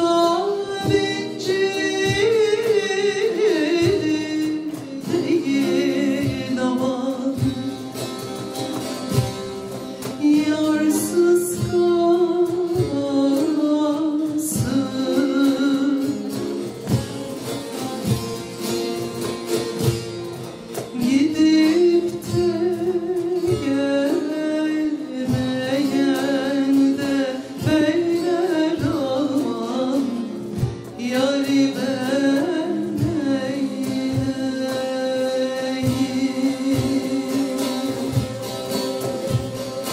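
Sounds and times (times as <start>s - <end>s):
person singing folk song: 0.0s - 39.9s
plucked long-necked lute: 0.0s - 39.9s.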